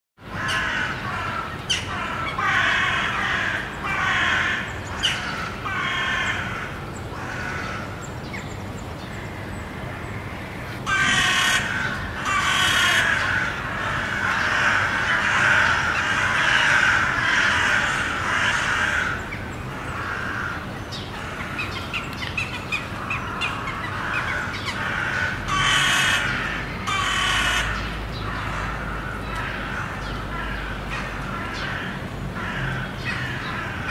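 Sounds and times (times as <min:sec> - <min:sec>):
crows cawing: 0:00.3 - 0:08.0, 0:09.2 - 0:33.9.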